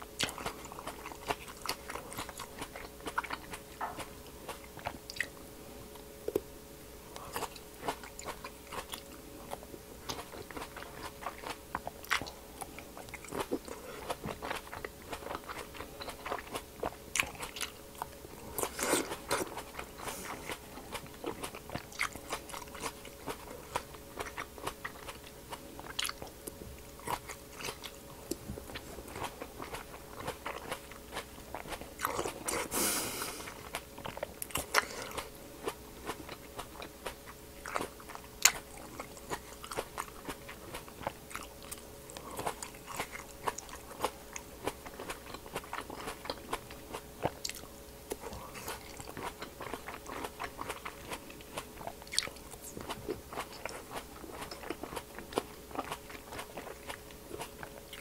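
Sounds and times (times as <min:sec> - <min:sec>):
chewing crunchy grapes: 0:00.0 - 0:58.0.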